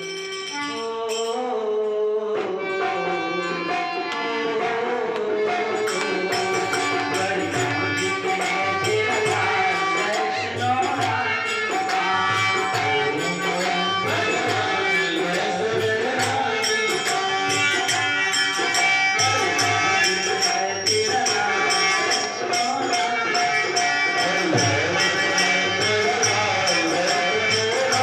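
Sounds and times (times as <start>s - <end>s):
jingling percussion beat: 0.0s - 2.0s, 5.3s - 28.0s
folk devotional singing: 0.6s - 28.0s.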